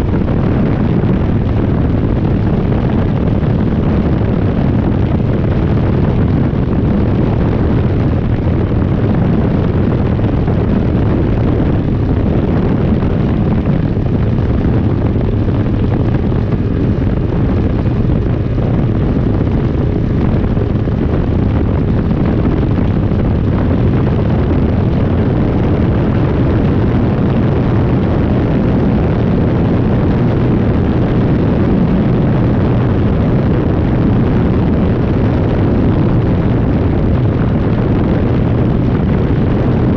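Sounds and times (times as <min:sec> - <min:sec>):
two-stroke engine and propeller: 0:00.0 - 0:39.9.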